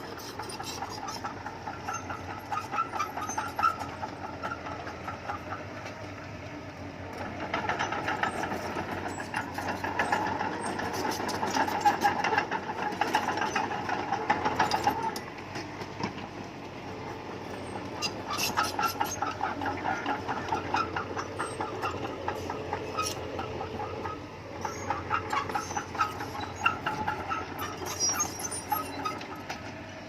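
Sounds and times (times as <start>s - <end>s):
steel tracks clanking and rattling: 0.0s - 6.2s, 7.1s - 30.0s
diesel engine running: 0.0s - 30.0s.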